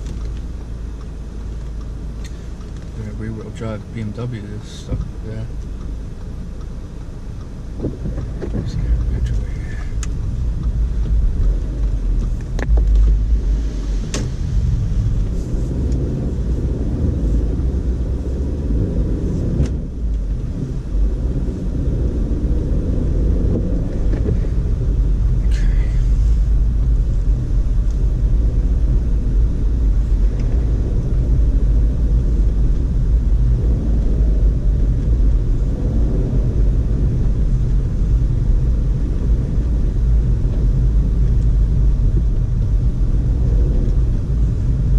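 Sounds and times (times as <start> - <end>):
car driving on snowy road: 0.0 - 44.9.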